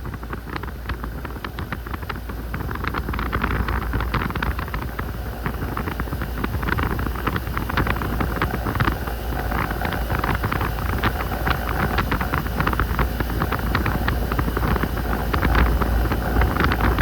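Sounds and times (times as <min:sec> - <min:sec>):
air conditioner hum: 0:00.0 - 0:17.0
fan air rushing: 0:00.0 - 0:17.0.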